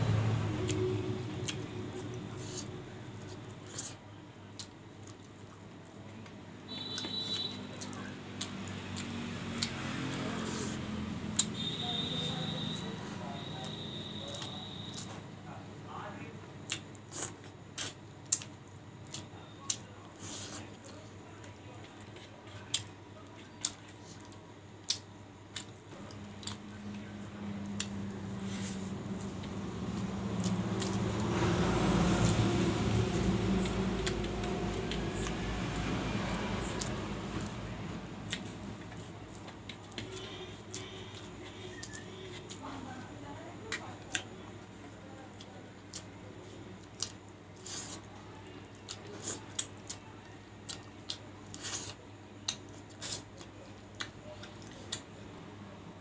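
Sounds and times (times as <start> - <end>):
person eating by hand: 0.5 - 11.8, 16.6 - 55.2
mouth chewing: 0.6 - 6.0, 6.7 - 15.2, 16.7 - 21.0, 21.9 - 37.6, 38.2 - 42.8, 45.3 - 55.1.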